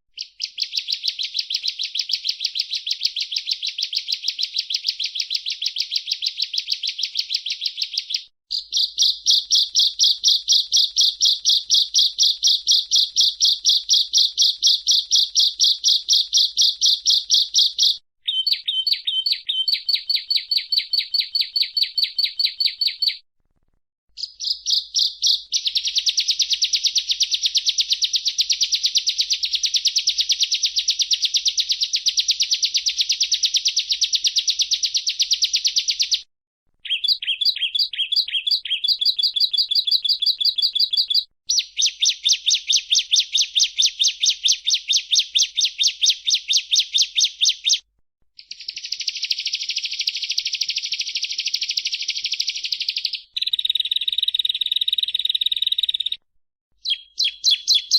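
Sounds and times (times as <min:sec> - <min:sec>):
bird singing high chirps: 0:00.2 - 0:23.2, 0:24.2 - 0:36.2, 0:36.8 - 0:47.8, 0:48.4 - 0:56.2, 0:56.8 - 0:57.9.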